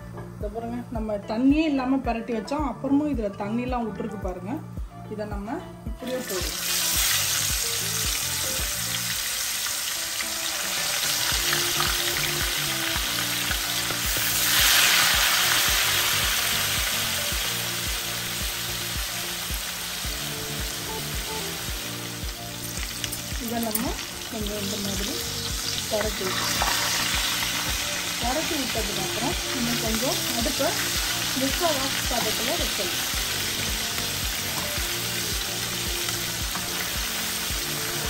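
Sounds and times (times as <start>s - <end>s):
chicken deep-frying in oil: 6.0s - 38.0s.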